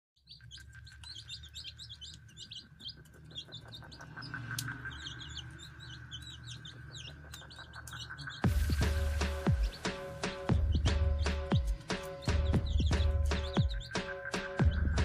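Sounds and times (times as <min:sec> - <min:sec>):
chicks peeping: 0:00.2 - 0:15.0.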